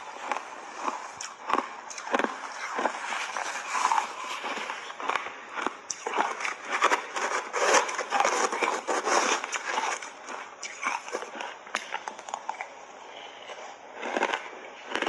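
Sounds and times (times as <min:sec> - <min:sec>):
shaved ice being chewed: 0:00.0 - 0:15.0.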